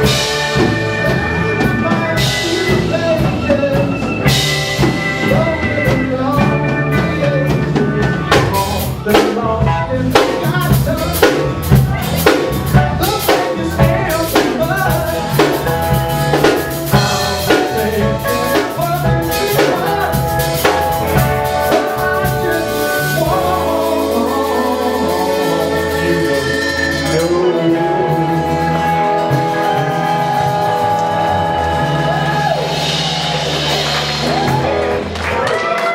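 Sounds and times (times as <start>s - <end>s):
drum kit hits and fills: 0.0s - 35.9s
live rock band playing: 0.0s - 35.9s.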